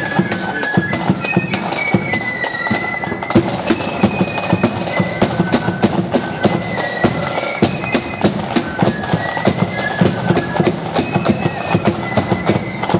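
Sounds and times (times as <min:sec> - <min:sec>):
fast drum beats: 0:00.0 - 0:12.9
high flute melody: 0:00.0 - 0:12.9.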